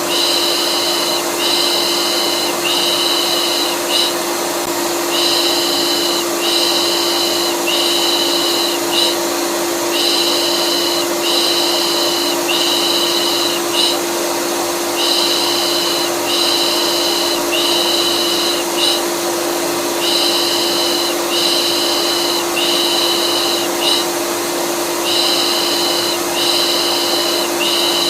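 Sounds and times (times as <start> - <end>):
vacuum cleaner humming: 0.0 - 28.0.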